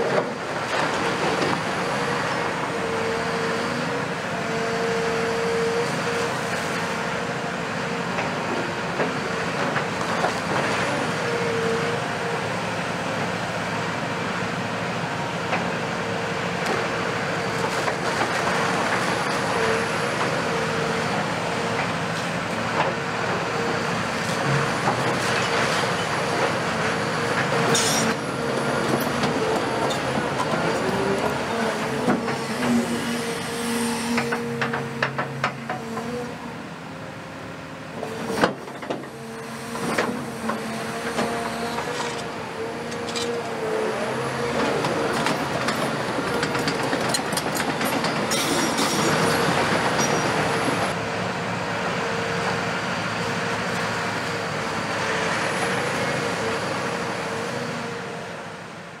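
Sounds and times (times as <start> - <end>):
excavator engine and hydraulics whine: 0.0 - 59.0.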